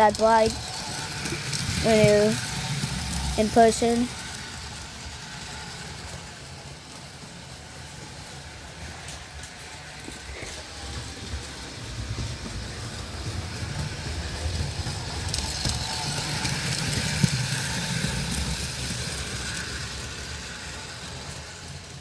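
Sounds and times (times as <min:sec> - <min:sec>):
model train rolling on track: 0:00.0 - 0:22.0.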